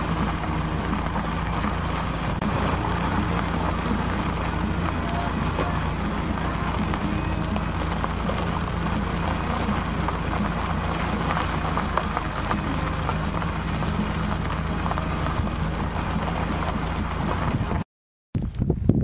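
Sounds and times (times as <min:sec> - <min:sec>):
light crackling: 0:00.0 - 0:17.8
wind noise on microphone: 0:00.0 - 0:19.0.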